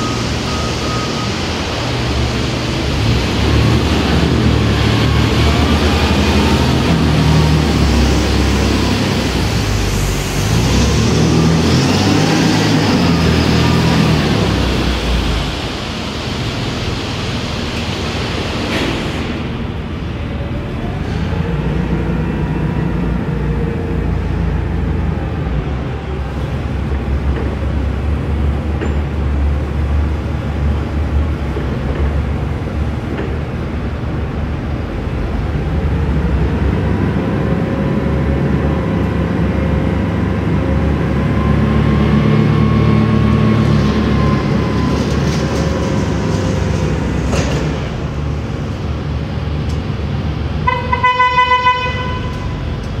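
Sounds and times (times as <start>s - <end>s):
forklift engine revving: 0.0s - 49.8s
hydraulic pump whine: 0.0s - 50.7s.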